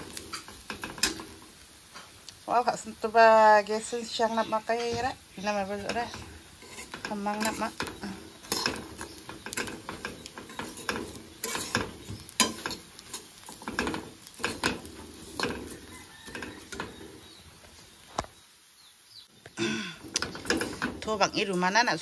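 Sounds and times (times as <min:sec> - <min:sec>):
metal spatula scraping wok: 0:00.0 - 0:02.2, 0:02.8 - 0:17.6, 0:20.0 - 0:22.0.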